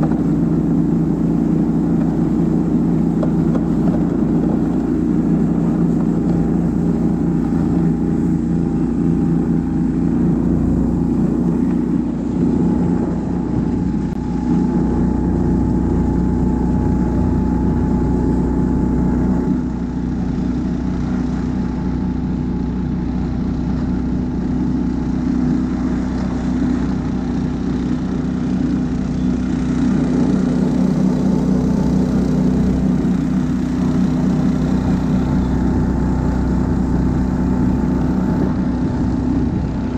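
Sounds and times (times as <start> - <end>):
snow tug engine running: 0.0 - 39.9.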